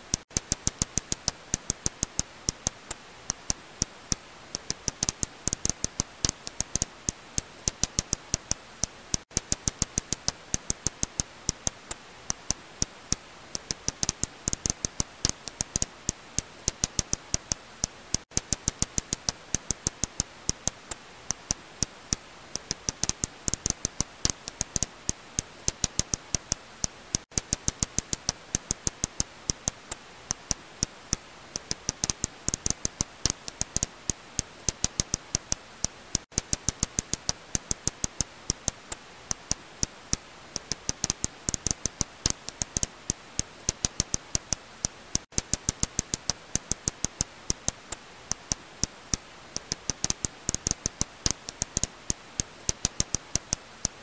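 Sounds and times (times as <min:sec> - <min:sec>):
faint hiss: 0:00.0 - 0:54.0.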